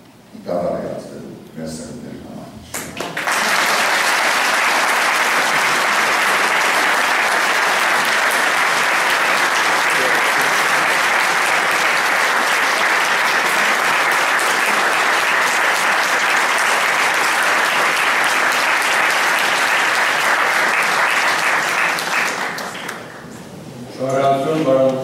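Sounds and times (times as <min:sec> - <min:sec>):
audience applauding: 0:02.8 - 0:23.3.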